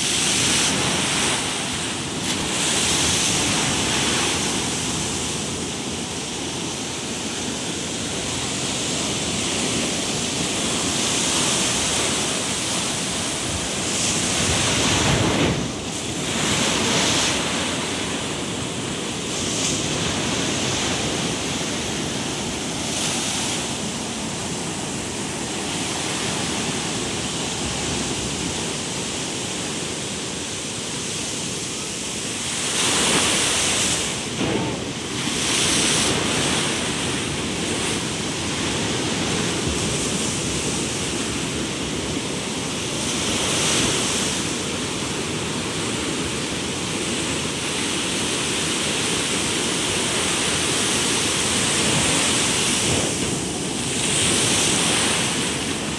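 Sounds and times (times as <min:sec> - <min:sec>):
ocean surf washing over rocks: 0:00.0 - 0:55.9.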